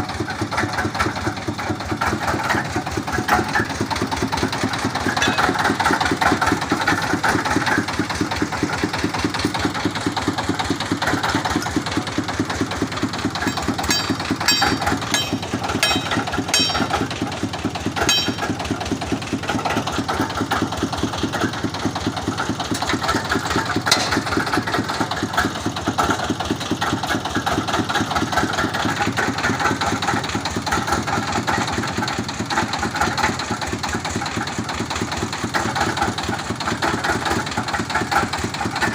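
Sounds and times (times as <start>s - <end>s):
drilling rig engine running: 0.0s - 38.9s.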